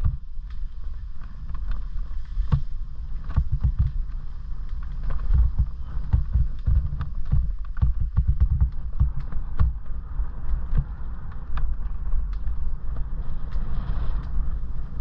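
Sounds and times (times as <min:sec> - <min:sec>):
bike clicks and rattles: 0:00.0 - 0:15.0
low rumble of ground vibration: 0:00.0 - 0:15.0
wind on microphone: 0:00.0 - 0:15.0.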